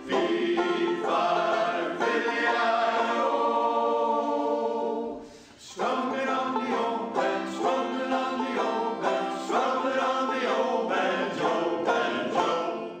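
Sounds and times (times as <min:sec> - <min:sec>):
banjo strummed and picked: 0:00.0 - 0:05.0, 0:05.6 - 0:13.0
men's chorus singing: 0:00.0 - 0:13.0.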